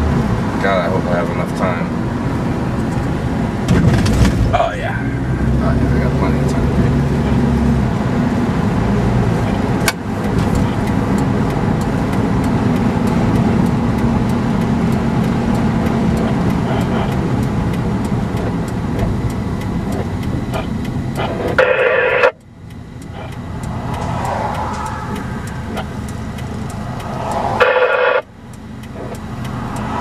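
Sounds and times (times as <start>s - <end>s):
turn signal ticking: 0.0s - 3.8s, 4.6s - 30.0s
car engine and road noise: 0.0s - 30.0s.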